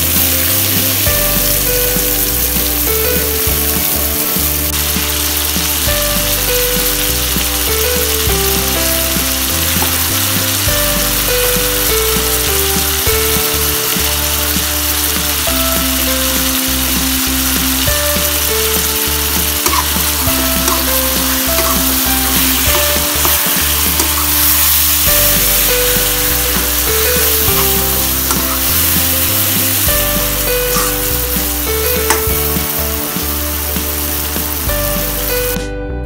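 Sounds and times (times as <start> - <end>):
vegetables sizzling in hot oil: 0.0 - 35.6
light background tune: 0.0 - 36.0.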